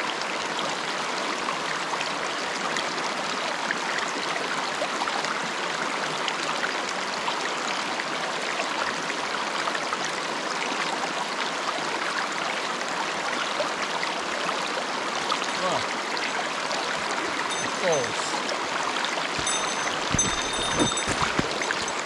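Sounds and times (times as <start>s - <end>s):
stream rushing over rocks: 0.2s - 22.0s.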